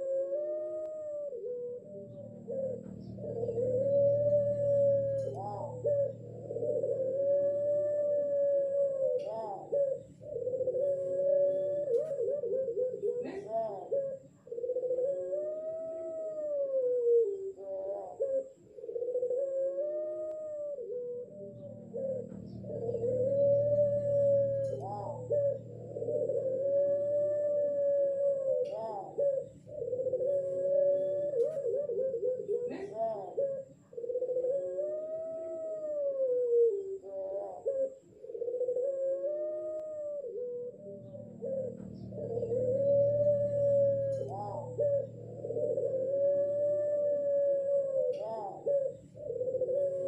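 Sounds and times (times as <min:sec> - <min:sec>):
dove cooing in long notes: 0:00.0 - 0:50.0.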